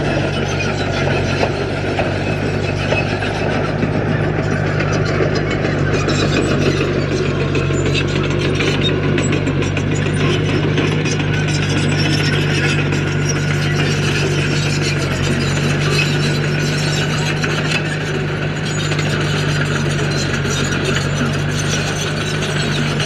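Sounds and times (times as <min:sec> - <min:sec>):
bulldozer diesel engine running: 0:00.0 - 0:23.0
rattling clatter: 0:00.0 - 0:23.0.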